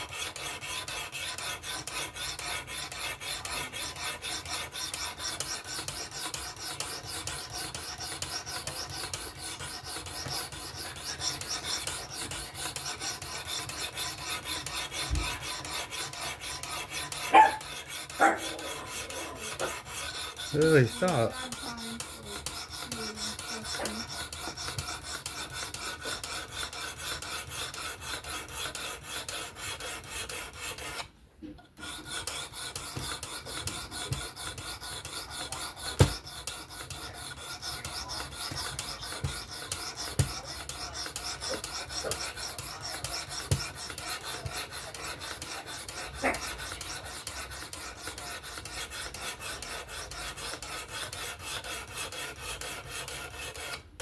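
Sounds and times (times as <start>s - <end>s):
sharpening stone scraping knife blade: 0.1s - 31.1s, 31.8s - 53.8s.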